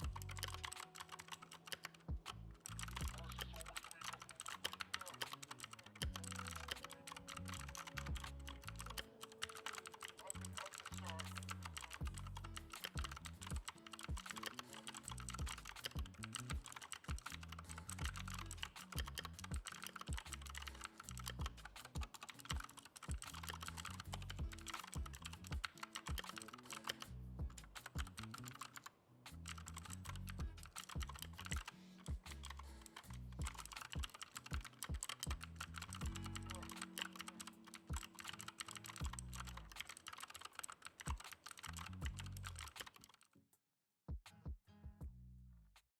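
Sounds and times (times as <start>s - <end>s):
fast typing on mechanical keyboard: 0.0s - 27.1s, 27.8s - 43.3s.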